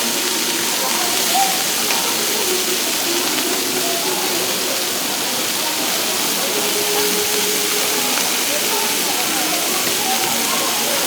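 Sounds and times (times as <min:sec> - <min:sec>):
steak sizzling on a griddle: 0:00.0 - 0:11.0.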